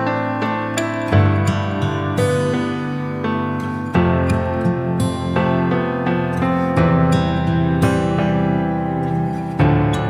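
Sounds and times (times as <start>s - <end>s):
instrumental music with sustained chords: 0.0s - 10.0s.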